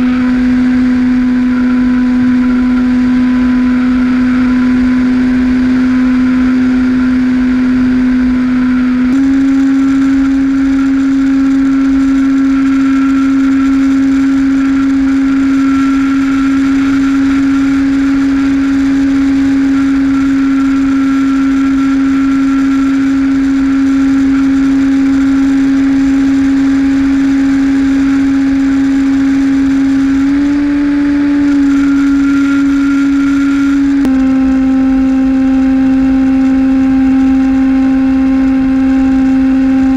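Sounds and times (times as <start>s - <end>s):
electric motor and propeller hum: 0.0s - 39.9s
wind noise: 0.0s - 39.9s.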